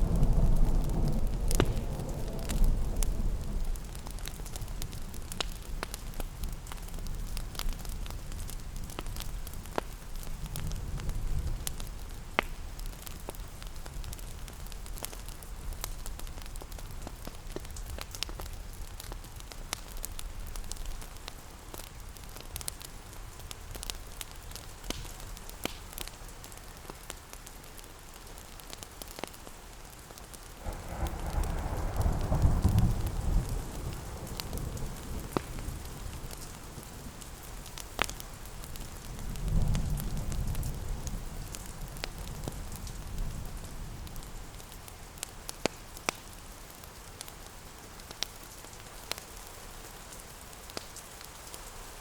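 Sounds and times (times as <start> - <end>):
rain: 0.0 - 52.0
wood fire crackling: 0.0 - 52.0.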